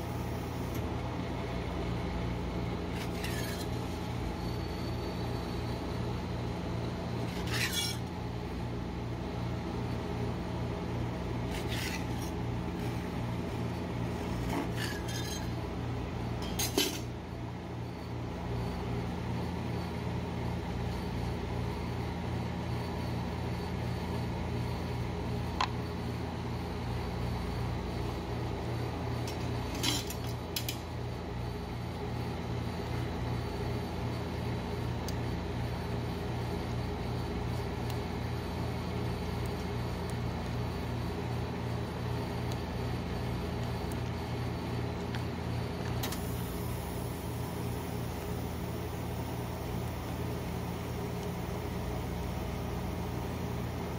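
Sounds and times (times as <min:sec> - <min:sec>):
refrigeration unit humming: 0:00.0 - 0:53.9.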